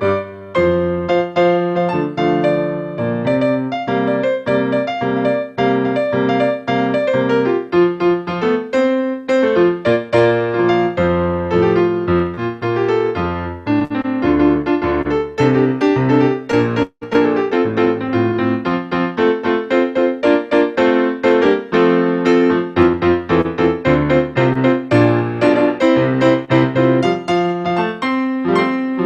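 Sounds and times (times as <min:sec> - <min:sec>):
solo piano playing: 0:00.0 - 0:29.0.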